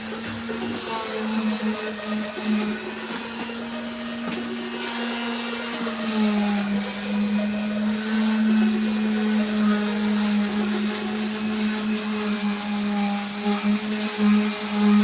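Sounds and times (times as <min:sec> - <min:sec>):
electric sander running: 0:00.0 - 0:15.0.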